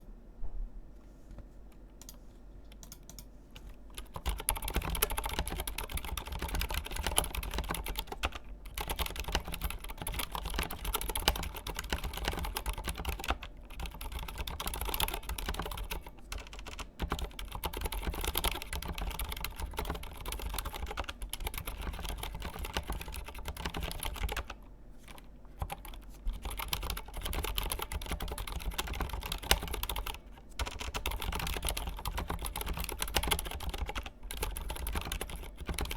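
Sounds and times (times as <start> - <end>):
typing on mechanical keyboard: 2.0 - 35.9.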